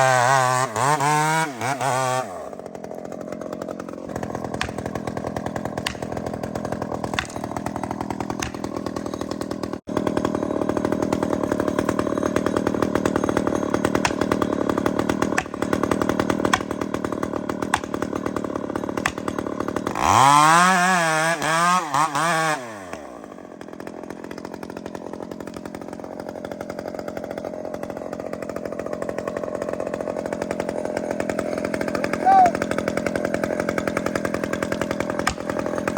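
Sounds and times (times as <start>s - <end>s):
chainsaw running: 0.0s - 35.9s.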